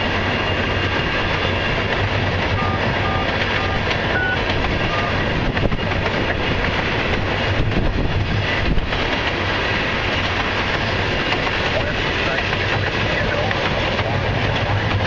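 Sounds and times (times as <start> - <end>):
freight train rolling past: 0.0 - 15.0
steel wheels rattling on rail: 0.0 - 15.0.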